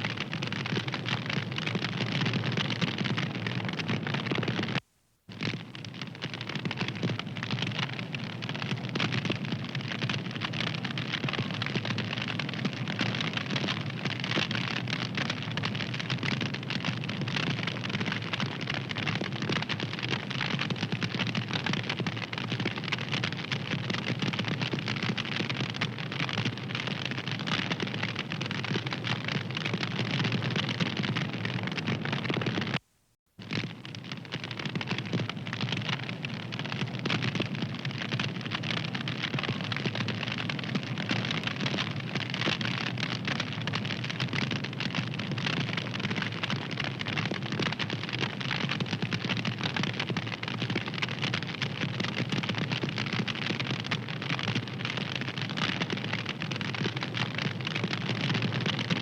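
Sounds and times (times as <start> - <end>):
wood fire crackling: 0.0 - 32.8, 33.4 - 58.8.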